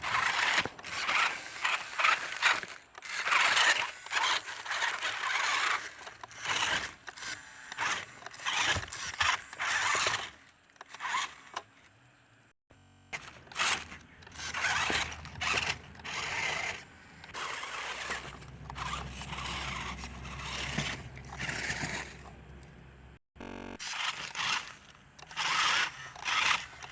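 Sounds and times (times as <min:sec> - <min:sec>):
rc truck wheels scraping ground: 0:00.0 - 0:11.8, 0:13.1 - 0:26.9.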